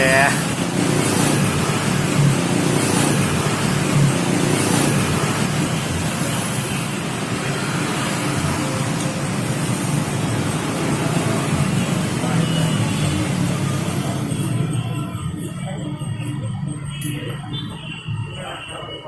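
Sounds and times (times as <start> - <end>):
low rumble of motor vehicles: 0.0 - 19.0.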